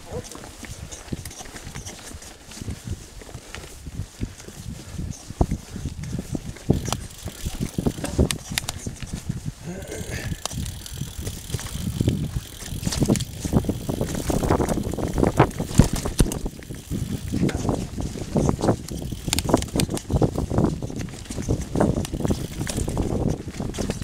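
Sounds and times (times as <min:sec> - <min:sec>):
bike knocks and rattles: 0:00.0 - 0:02.8, 0:03.6 - 0:09.4, 0:10.0 - 0:24.0
bike tyres rumbling on dirt: 0:00.0 - 0:24.0.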